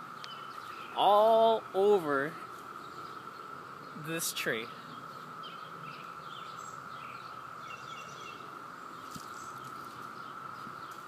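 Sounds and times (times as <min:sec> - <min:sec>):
birds chirping: 0:00.0 - 0:11.0
cicadas high hum: 0:00.0 - 0:11.0.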